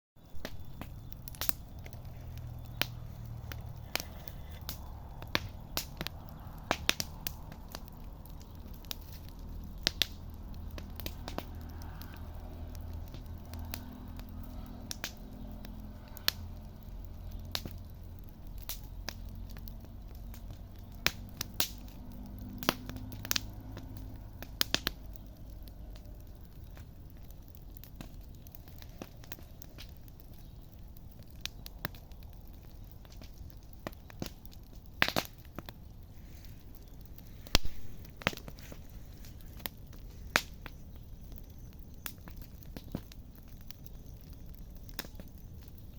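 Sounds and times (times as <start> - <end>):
campfire crackling and popping: 0.2 - 45.9.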